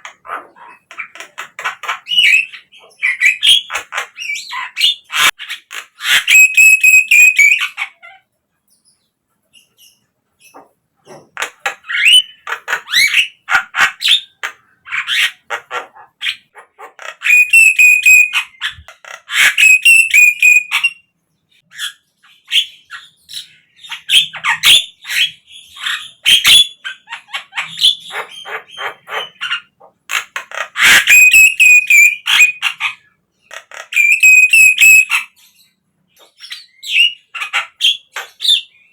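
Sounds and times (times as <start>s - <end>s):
bird harsh chattering calls: 0.0s - 8.3s, 9.6s - 21.0s, 21.6s - 38.9s.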